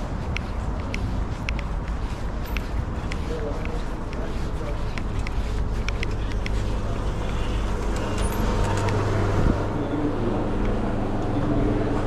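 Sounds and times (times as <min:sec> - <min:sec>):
street traffic: 0:00.0 - 0:12.0
vehicle engine rumbling: 0:00.0 - 0:12.0.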